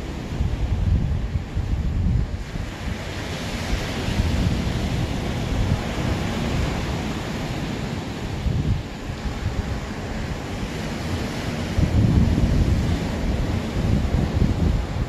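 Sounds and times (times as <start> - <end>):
ocean surf washing on shore: 0.0 - 15.0
wind buffeting microphone: 0.0 - 15.0.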